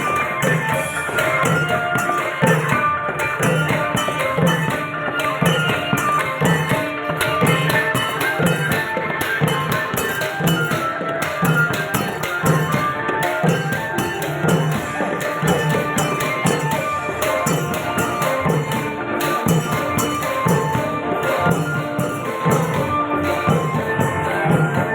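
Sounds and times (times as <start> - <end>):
long drums beating: 0.0 - 24.9
rapid cymbal clashes: 0.0 - 24.9.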